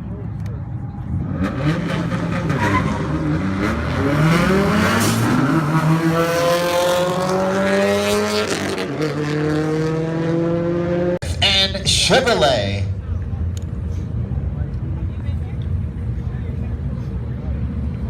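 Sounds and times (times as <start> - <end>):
drag car engines accelerating: 0.0 - 18.0.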